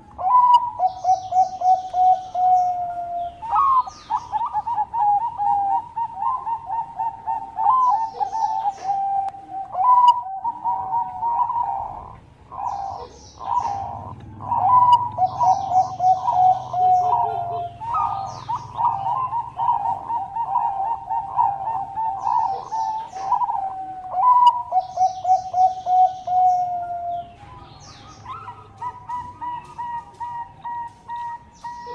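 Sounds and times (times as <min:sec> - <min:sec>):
dove cooing: 0:00.0 - 0:31.9
high chirps: 0:00.1 - 0:31.9.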